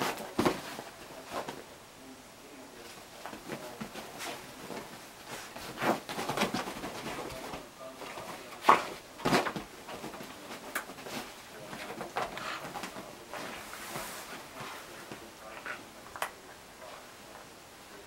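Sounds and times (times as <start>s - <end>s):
bedding rustling: 0.0s - 1.8s, 2.6s - 18.0s.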